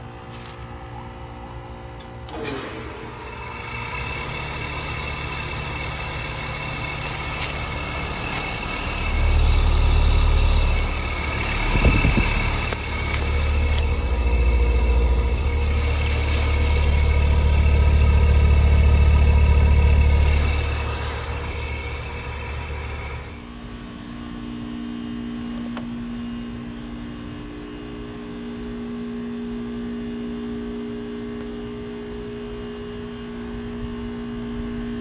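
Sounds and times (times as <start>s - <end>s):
heat pump compressor rumble: 0.0s - 35.0s.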